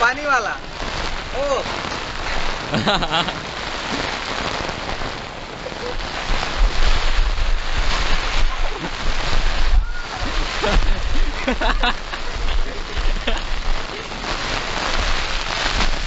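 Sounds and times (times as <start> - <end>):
heavy rain pouring: 0.0 - 16.0
wind buffeting microphone: 0.0 - 16.0.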